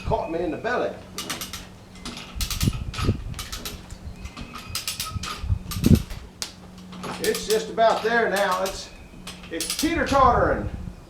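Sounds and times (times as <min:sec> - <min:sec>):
metal chain clinking: 0:01.0 - 0:10.3.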